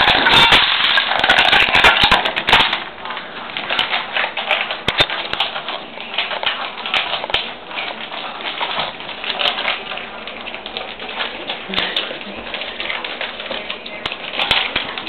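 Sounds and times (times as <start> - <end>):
dog claws clicking on hard floor: 0.0 - 15.0.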